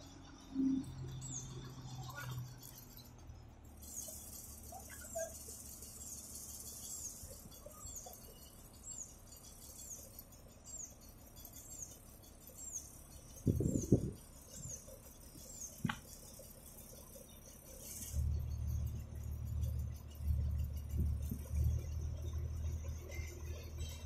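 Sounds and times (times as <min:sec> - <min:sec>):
crane engine running: 0:00.0 - 0:24.0
rattling clatter: 0:00.0 - 0:24.0.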